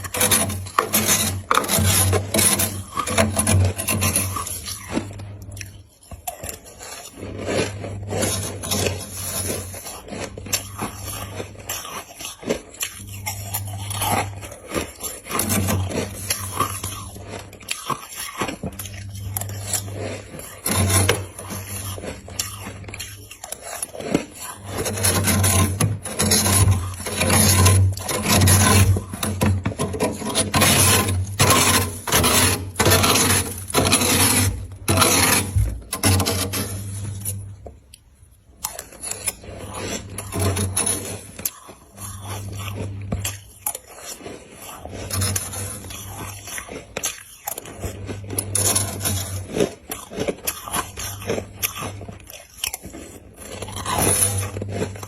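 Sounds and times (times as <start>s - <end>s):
ice being chewed crunching: 0.0s - 55.0s.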